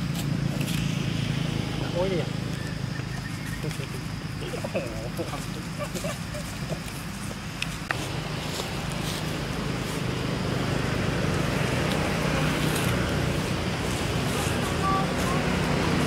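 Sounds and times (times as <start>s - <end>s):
vehicle engine running: 0.0s - 5.7s, 6.8s - 16.0s.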